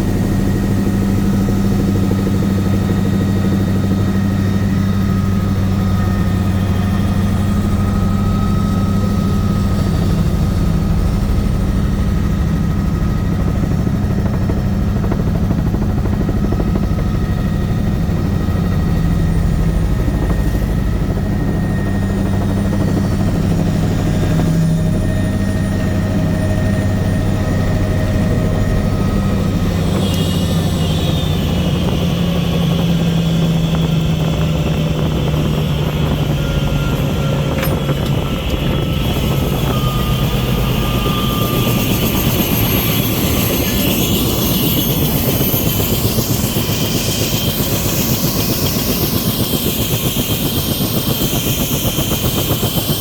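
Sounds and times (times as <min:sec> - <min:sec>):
helicopter engine and rotor drone: 0:00.0 - 0:53.0
high turbine whine: 0:00.0 - 0:53.0.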